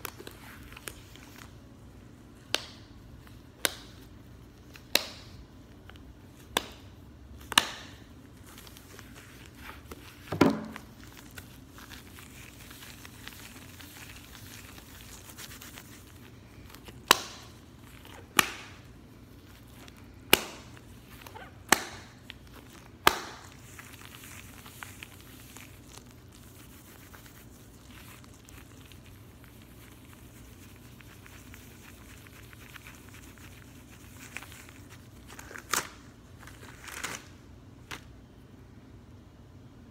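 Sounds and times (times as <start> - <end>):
latex gloves rustling: 0.0 - 38.1
latex gloves snapping: 2.4 - 36.0.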